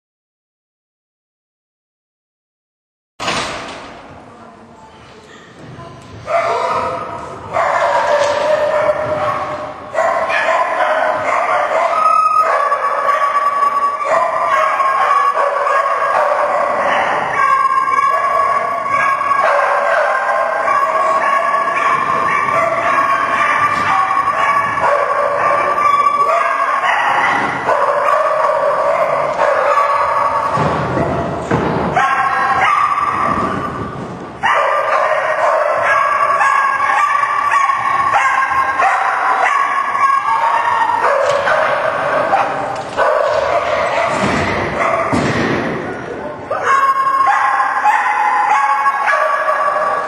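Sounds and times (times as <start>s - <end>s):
dog barking: 6.2s - 33.8s, 34.4s - 45.2s, 46.5s - 50.0s.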